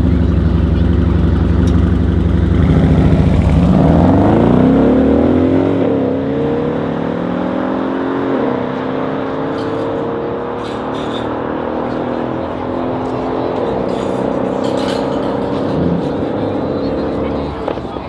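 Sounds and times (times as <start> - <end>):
car engines accelerating: 0.0 - 18.0.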